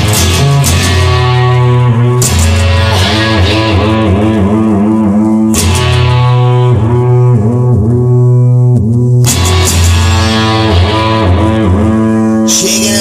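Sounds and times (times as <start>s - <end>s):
bass note: 0.0s - 13.0s
electric guitar bending notes: 0.0s - 13.0s.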